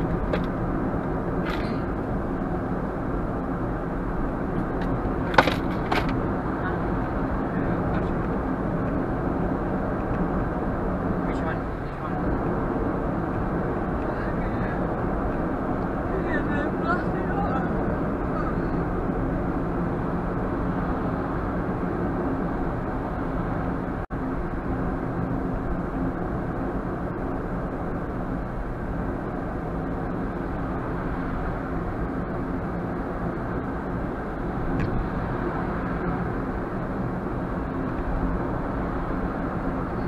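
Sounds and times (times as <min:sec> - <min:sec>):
car cabin road and engine noise: 0:00.0 - 0:40.0.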